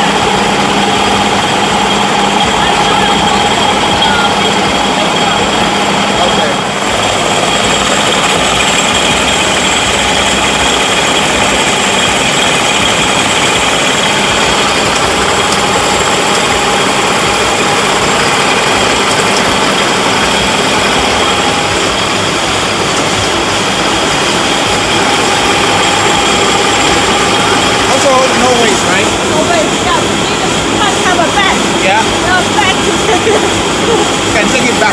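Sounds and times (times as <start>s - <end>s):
constant whining tones: 0.0s - 34.9s
industrial machinery din: 0.0s - 34.9s.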